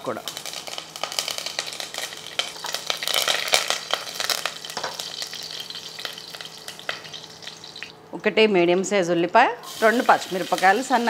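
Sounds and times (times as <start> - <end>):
spices sizzling and popping in oil: 0.0 - 8.0, 9.6 - 11.0.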